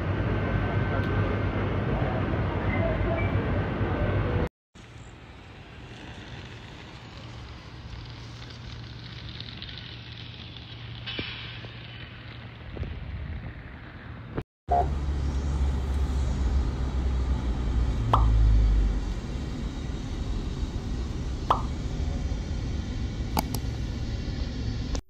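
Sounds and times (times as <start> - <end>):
car engine and road rumble: 4.3 - 25.0.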